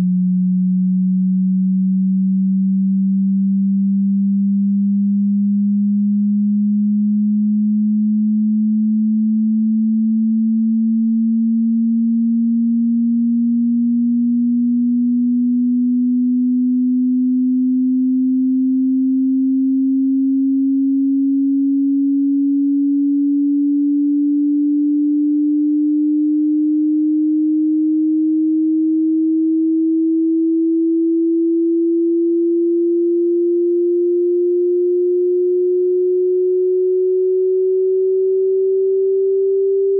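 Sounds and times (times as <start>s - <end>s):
sine-wave tone sweeping upward: 0.0s - 39.9s.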